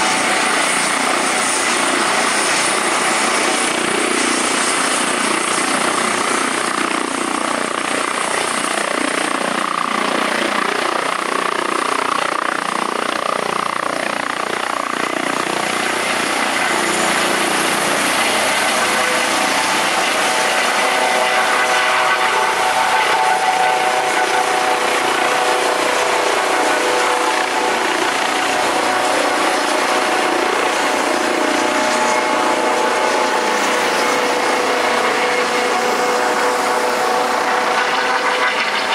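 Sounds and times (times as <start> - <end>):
helicopter turbines and rotor: 0.0 - 38.9
whine of steady tones: 0.0 - 38.9.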